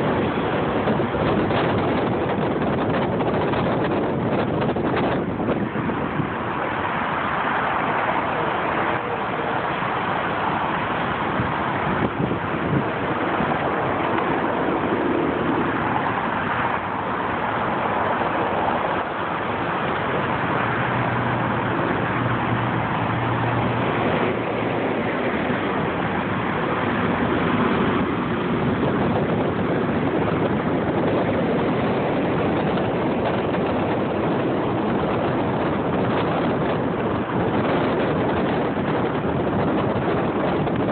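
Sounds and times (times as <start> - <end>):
car road and wind noise: 0.0 - 40.9.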